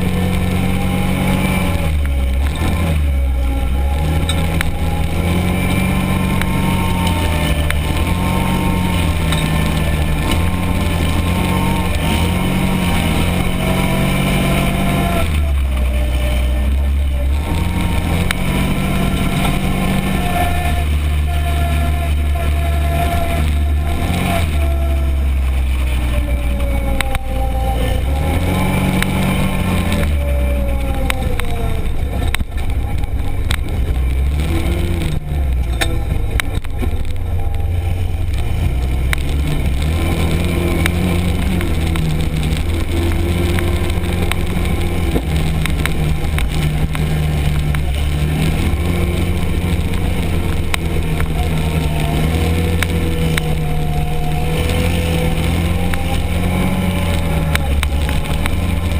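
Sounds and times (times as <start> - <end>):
sharp clicks and knocks: 0.0 - 58.9
utility vehicle engine revving: 0.0 - 58.9.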